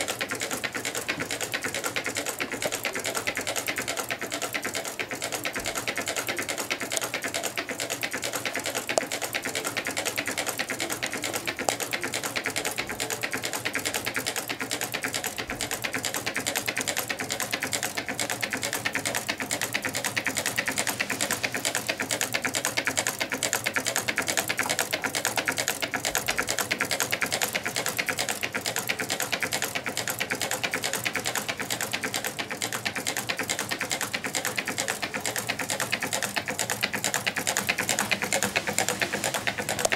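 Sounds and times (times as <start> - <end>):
stirling engine rapid clicking: 0.0 - 39.9.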